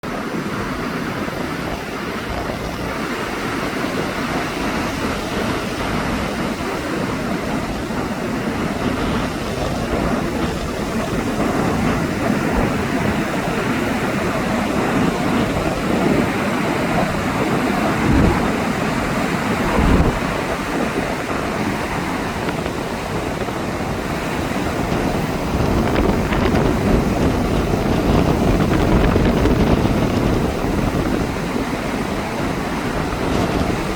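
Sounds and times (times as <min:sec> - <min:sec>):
waves breaking on beach: 0:00.0 - 0:33.9
wind buffeting microphone: 0:00.0 - 0:33.9.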